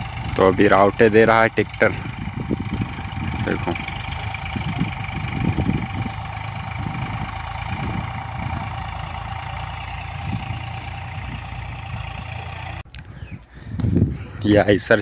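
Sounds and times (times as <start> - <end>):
tractor diesel engine under load: 0.0 - 13.4.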